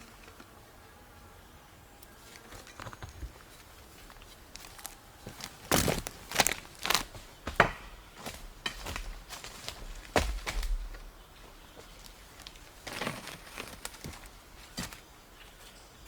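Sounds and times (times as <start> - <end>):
footsteps crunching: 2.2 - 15.1.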